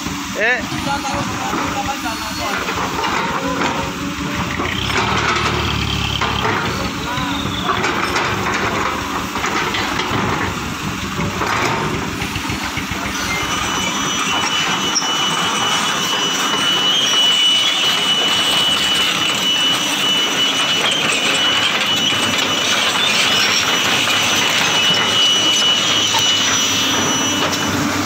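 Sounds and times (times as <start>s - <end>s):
excavator engine running: 0.0s - 28.0s
dump truck engine pulling away: 3.2s - 28.0s.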